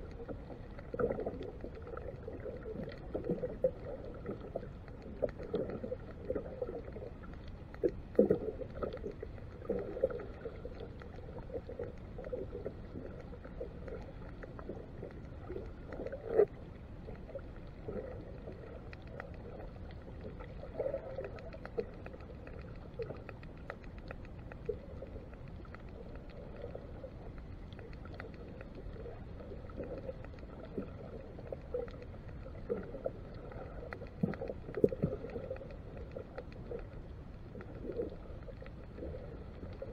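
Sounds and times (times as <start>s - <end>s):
muffled underwater rush: 0.0s - 39.9s.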